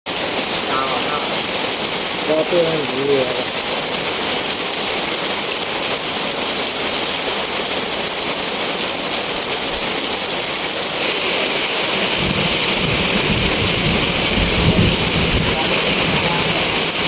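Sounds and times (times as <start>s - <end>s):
heavy rain pouring: 0.1s - 17.0s.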